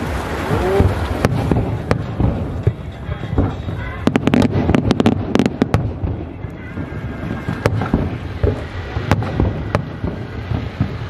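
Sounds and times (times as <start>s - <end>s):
fireworks bangs and crackles: 0.0s - 11.0s
steady low rumble: 0.0s - 11.0s.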